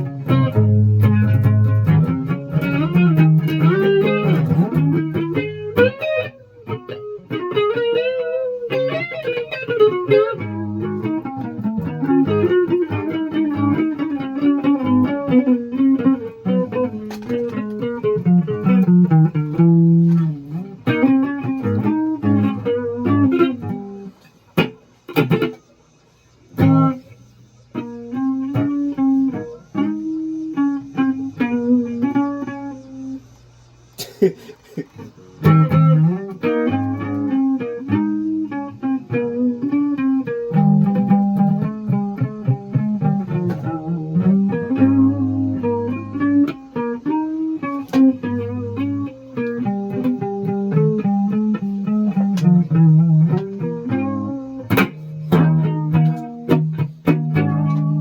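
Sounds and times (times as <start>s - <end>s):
electric guitar with effect: 0.0s - 25.8s, 26.4s - 33.4s, 35.0s - 58.0s.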